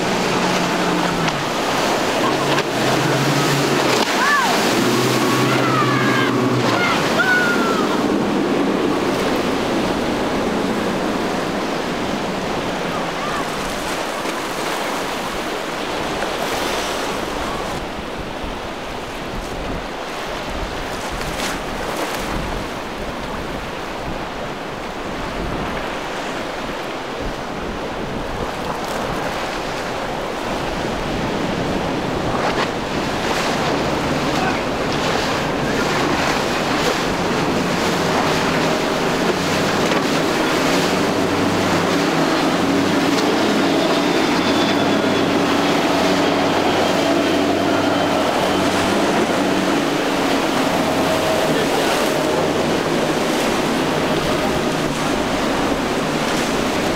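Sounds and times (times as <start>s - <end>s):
outboard motors running: 0.0s - 56.9s
waves washing and breaking: 0.0s - 56.9s
wind buffeting microphone: 0.0s - 56.9s.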